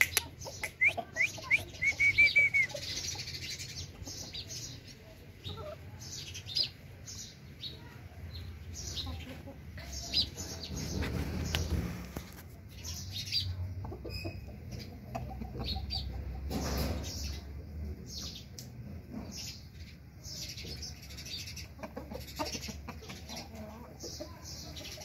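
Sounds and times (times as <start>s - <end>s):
chicken clucking: 0.0s - 7.0s, 7.7s - 19.7s, 20.4s - 25.0s.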